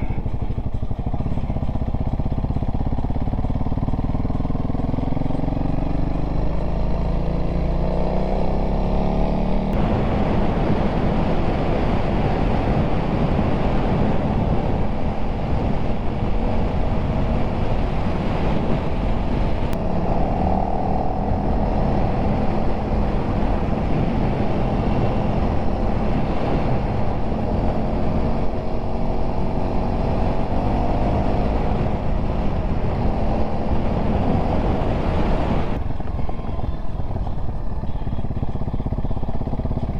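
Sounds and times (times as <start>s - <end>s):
wind noise: 0.0s - 3.4s, 4.2s - 39.9s
dirt bike engine accelerating: 0.0s - 39.9s.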